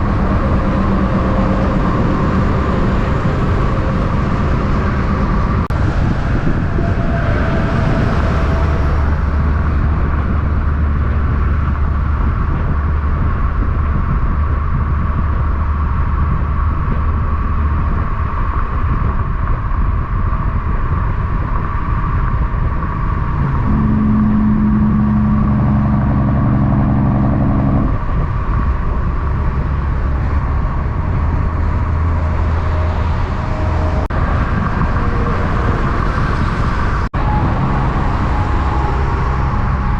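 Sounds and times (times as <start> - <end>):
truck engine drone: 0.0 - 21.2, 21.8 - 39.9
road noise: 0.0 - 39.9.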